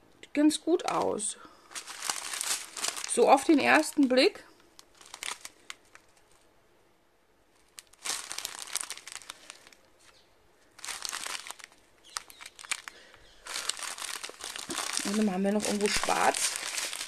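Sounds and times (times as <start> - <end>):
plastic bags crinkling: 0.7 - 6.4, 7.5 - 17.0.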